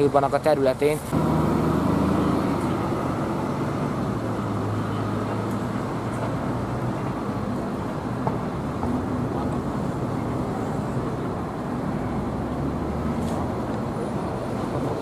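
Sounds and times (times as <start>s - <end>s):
bus diesel engine humming: 1.1s - 15.0s.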